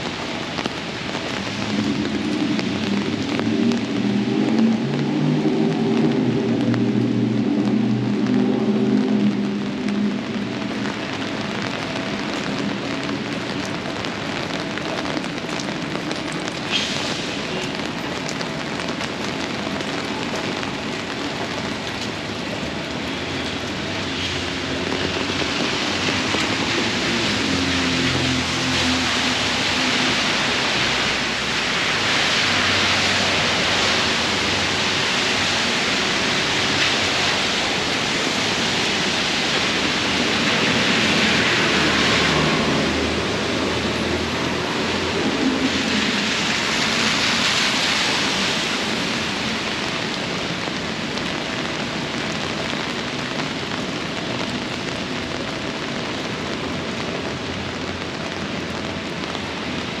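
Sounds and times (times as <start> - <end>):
rain splashing on ground: 0.0 - 60.0.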